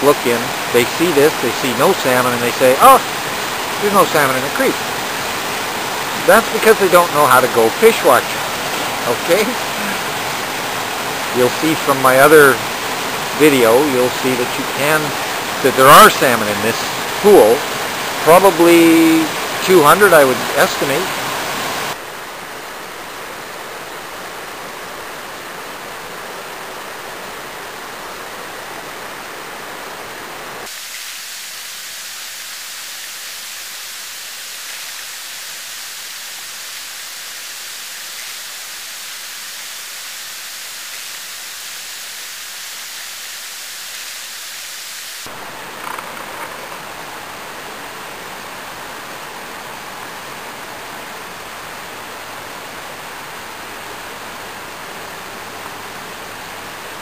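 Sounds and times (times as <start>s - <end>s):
creek water rushing into pool: 0.0s - 57.0s.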